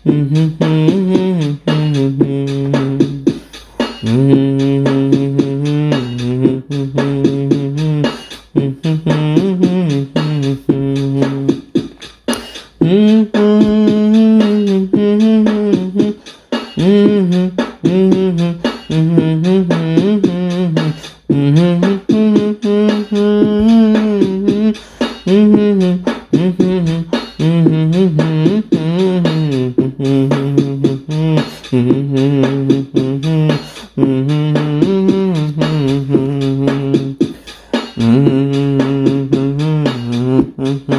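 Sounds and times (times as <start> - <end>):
melody over rhythmic beat: 0.0 - 40.9.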